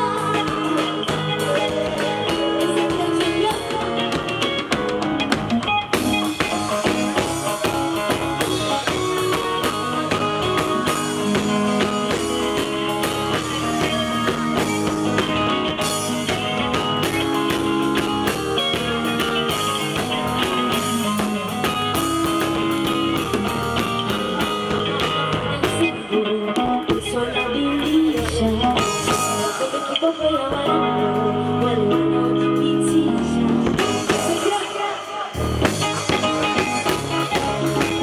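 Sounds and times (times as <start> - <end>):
band with guitar and drums: 0.0 - 38.0.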